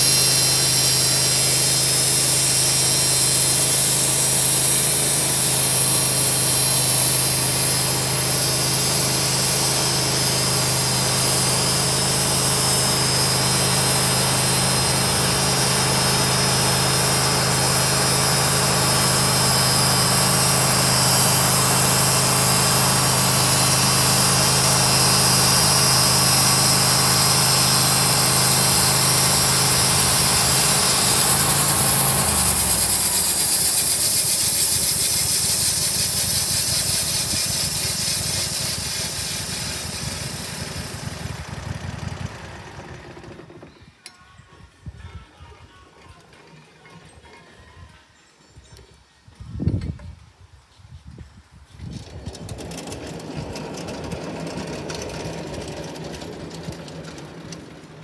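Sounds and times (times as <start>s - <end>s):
band blade whining through log: 0.0s - 43.8s, 51.9s - 58.0s
sawmill engine running: 0.0s - 44.0s, 51.8s - 58.0s.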